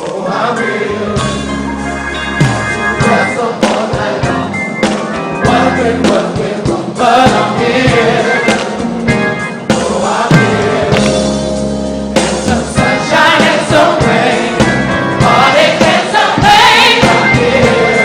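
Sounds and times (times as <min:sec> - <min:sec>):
gospel choir singing: 0:00.0 - 0:18.0
instrumental accompaniment: 0:00.0 - 0:18.0.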